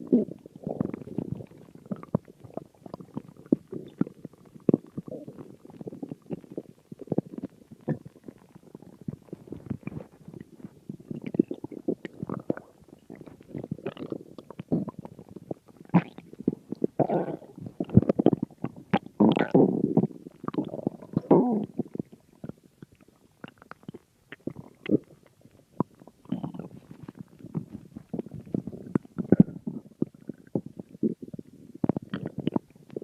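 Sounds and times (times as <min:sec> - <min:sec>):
stomach growling and gurgling: 0:00.0 - 0:33.0.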